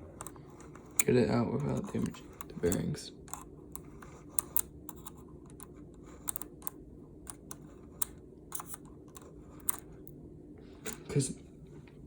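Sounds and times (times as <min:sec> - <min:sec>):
screwdriver clicking on plastic: 0:00.2 - 0:10.2.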